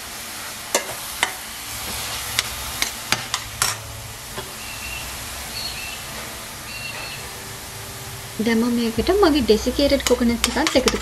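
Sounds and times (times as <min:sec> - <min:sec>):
vegetables sizzling: 0:00.0 - 0:11.0.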